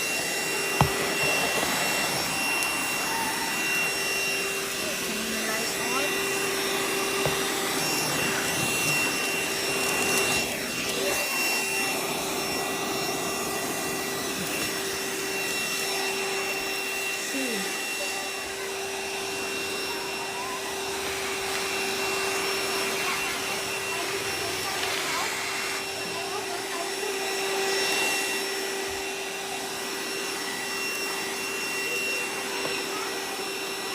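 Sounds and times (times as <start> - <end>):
handheld vacuum cleaner running: 0.0 - 33.9.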